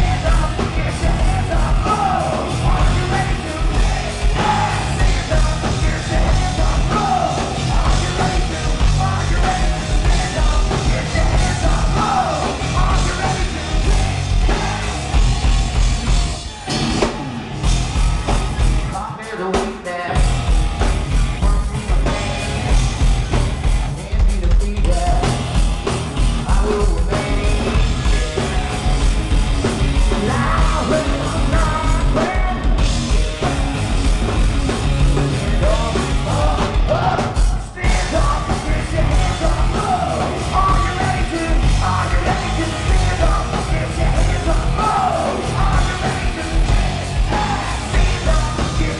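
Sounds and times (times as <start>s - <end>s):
singer yelling and singing: 0.0s - 20.5s, 23.8s - 25.5s, 26.2s - 33.8s, 34.8s - 48.9s
hard rock band playing: 0.0s - 48.9s.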